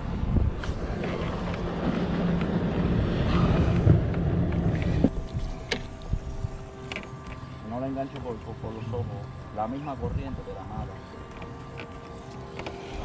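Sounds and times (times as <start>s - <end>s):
wind rumbling on microphone: 0.0s - 7.4s, 9.9s - 13.0s.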